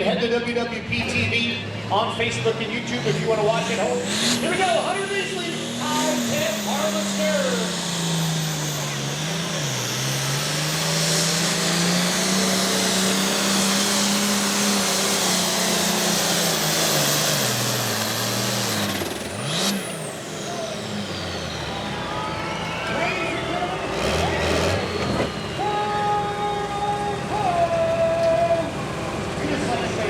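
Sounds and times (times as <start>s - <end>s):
tractor engine running flat out: 0.0s - 30.0s
high whine winding down: 2.8s - 30.0s.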